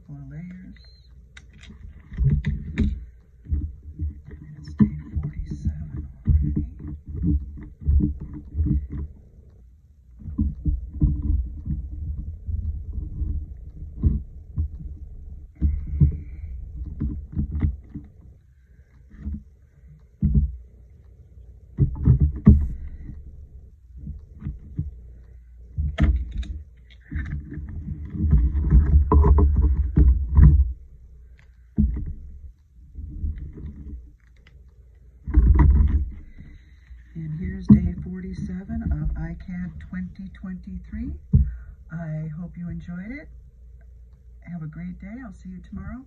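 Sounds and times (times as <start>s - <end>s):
dull low rumble: 0.0s - 46.0s.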